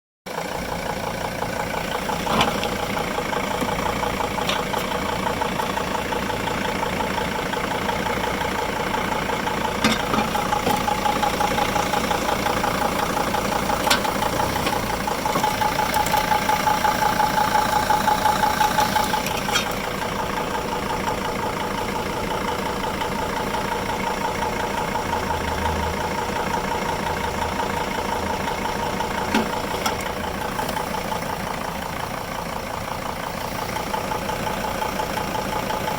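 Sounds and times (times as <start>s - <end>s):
engine machinery humming and whining: 0.3s - 35.9s.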